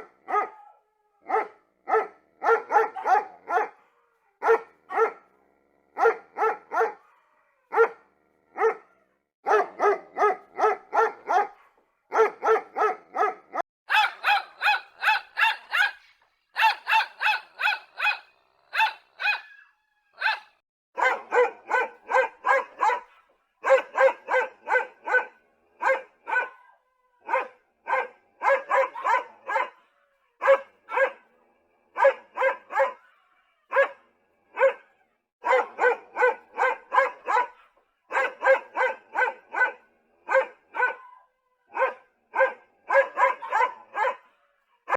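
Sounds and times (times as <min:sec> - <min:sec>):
dog barking: 0:00.0 - 0:44.9.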